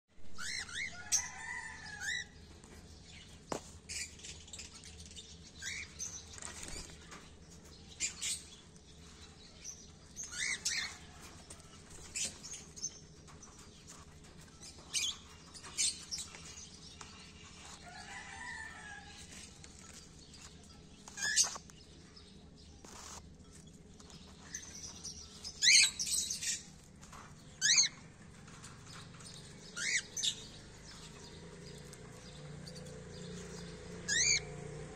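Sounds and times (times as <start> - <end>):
cockatiels chirping and calling: 0.3 - 3.2, 3.9 - 9.3, 10.1 - 19.7, 20.3 - 22.0, 22.8 - 23.2, 24.0 - 31.8, 32.7 - 34.5.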